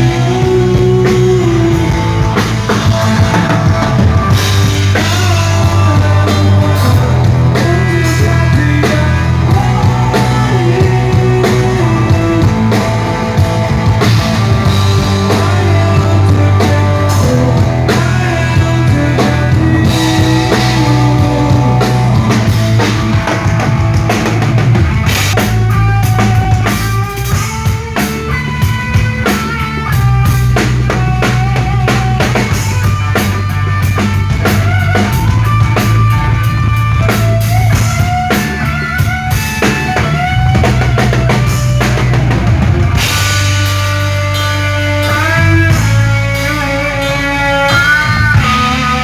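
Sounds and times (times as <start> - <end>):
bass guitar: 0.0 - 49.0
drum kit: 0.0 - 49.0
electric guitar: 0.0 - 49.0.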